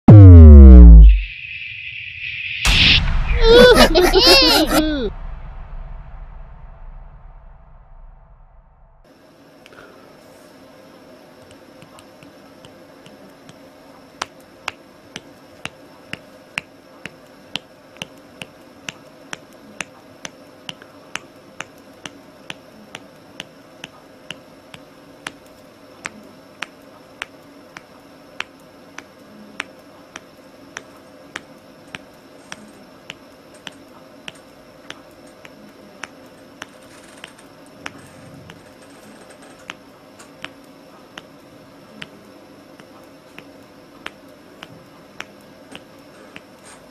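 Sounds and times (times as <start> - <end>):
steady background hum: 0.1 - 46.9.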